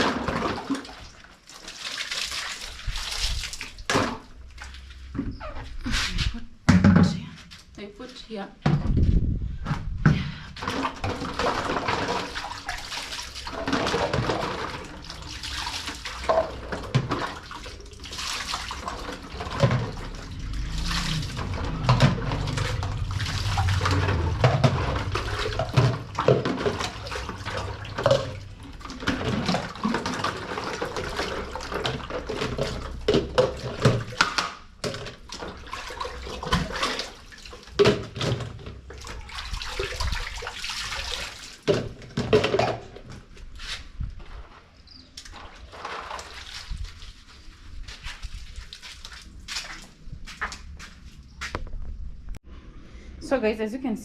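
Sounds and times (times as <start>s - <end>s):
water splashing and pouring: 0.0s - 5.2s, 10.6s - 50.9s.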